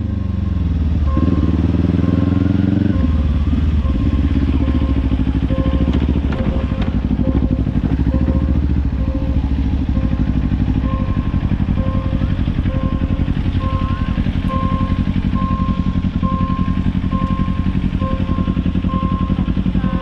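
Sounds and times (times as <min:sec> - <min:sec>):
motorcycle engine running: 0:00.0 - 0:20.0
level crossing bell dinging: 0:00.4 - 0:20.0.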